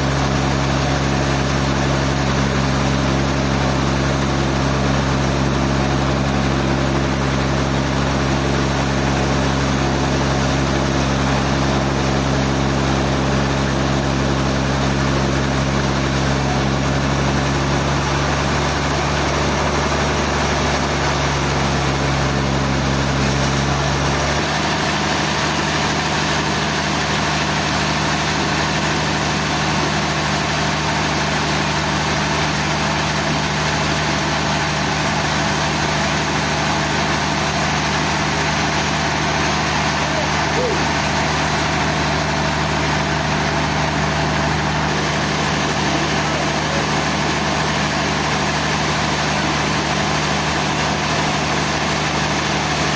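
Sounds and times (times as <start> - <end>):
large engine running: 0.0 - 52.9.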